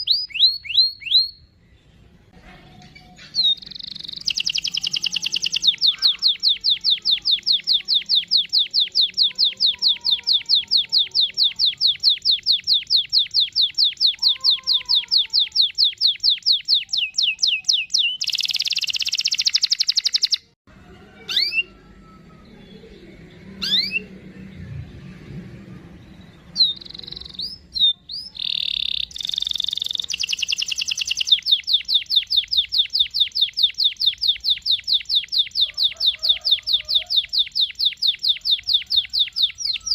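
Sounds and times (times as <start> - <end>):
canary singing rolling trill: 0.0 - 39.9.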